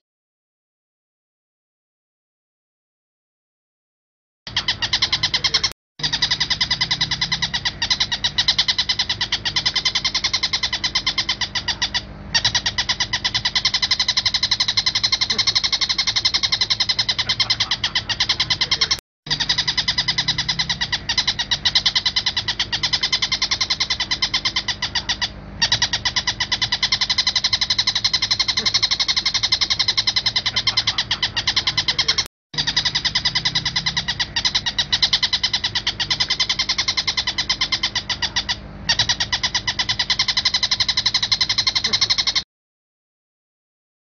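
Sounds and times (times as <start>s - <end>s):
bird harsh rapid chatter: 4.5s - 42.4s.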